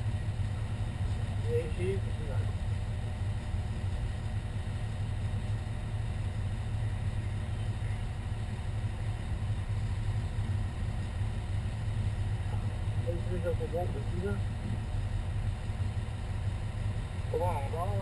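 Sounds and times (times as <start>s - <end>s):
fire engine engine droning: 0.0s - 18.0s.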